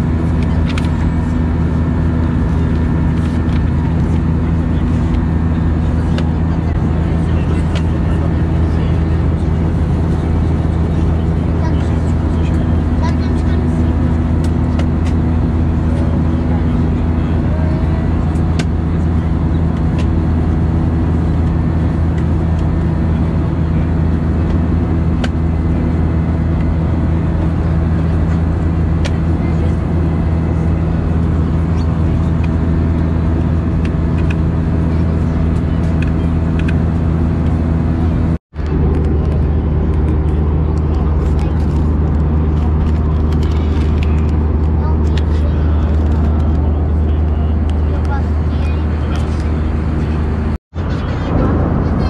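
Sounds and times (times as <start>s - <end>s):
jet engines droning in cabin: 0.0s - 52.0s.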